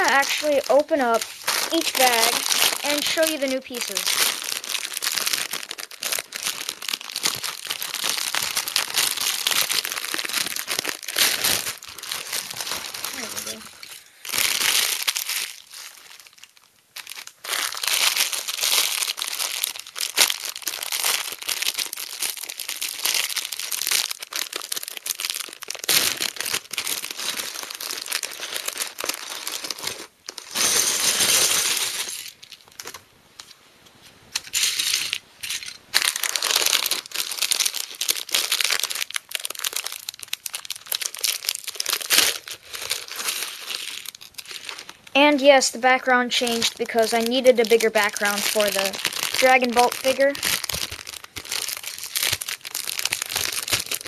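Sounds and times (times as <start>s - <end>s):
plastic bags crinkling: 0.0s - 33.5s, 34.3s - 54.0s.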